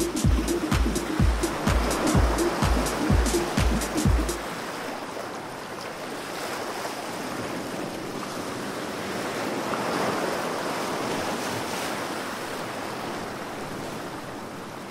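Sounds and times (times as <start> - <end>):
water rushing and sloshing: 0.0 - 14.9.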